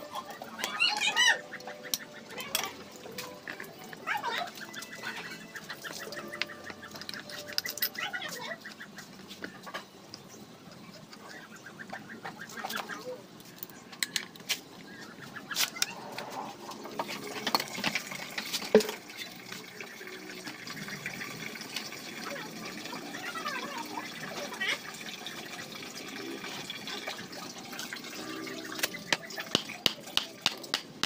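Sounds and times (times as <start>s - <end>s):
chickens clucking: 0.0s - 14.1s, 14.7s - 30.4s.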